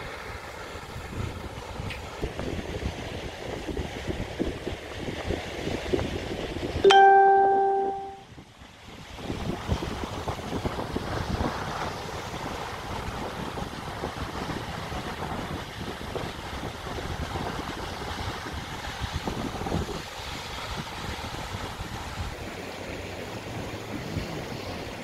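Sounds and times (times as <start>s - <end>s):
rushing water: 0.0s - 25.0s
wind buffeting microphone: 0.1s - 6.8s, 8.3s - 25.0s.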